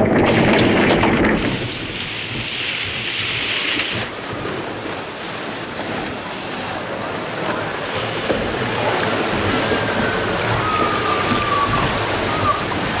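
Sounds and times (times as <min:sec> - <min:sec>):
water rushing along channel: 0:00.0 - 0:13.0
water splashing around boat: 0:00.0 - 0:13.0.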